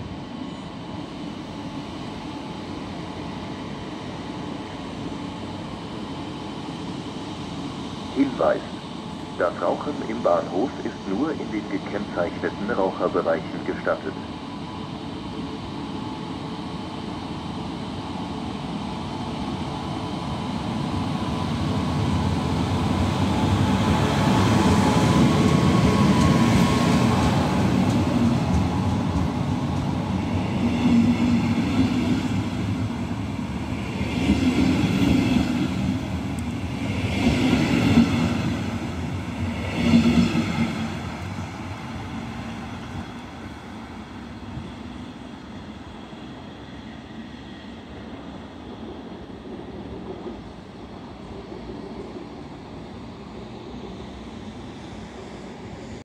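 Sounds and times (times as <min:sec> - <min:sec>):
train passing at speed: 0:00.0 - 0:56.0.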